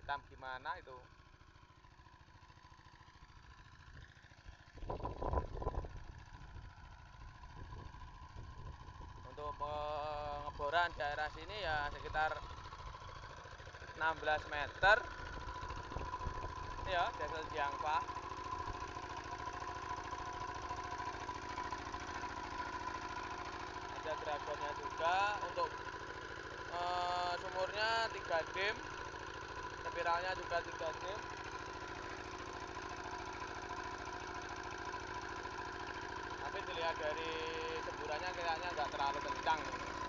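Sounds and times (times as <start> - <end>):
diesel engine chugging: 0.0 - 40.0.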